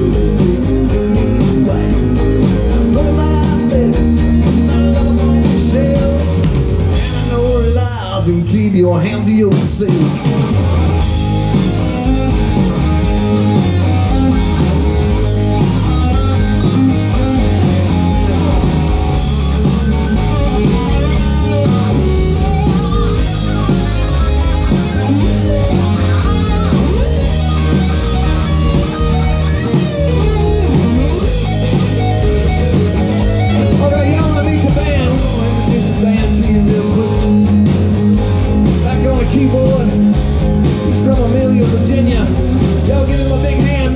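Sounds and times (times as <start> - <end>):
electric guitar: 0.0 - 43.9
live band playing: 0.0 - 43.9
steady drum beat: 0.0 - 43.9.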